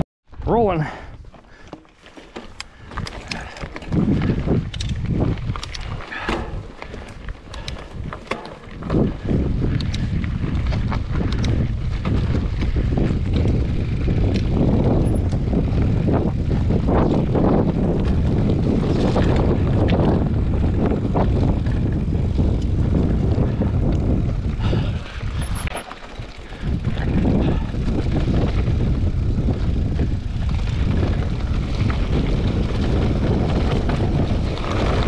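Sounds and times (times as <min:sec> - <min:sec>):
wind rumble on microphone: 0:02.5 - 0:35.0.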